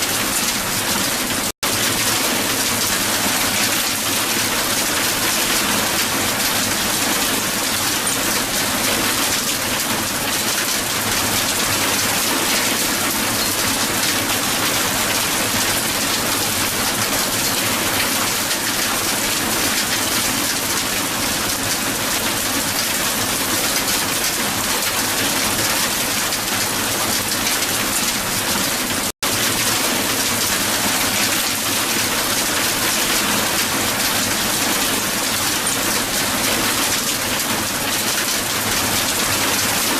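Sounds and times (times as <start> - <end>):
hail on a hard surface: 0.0 - 39.9.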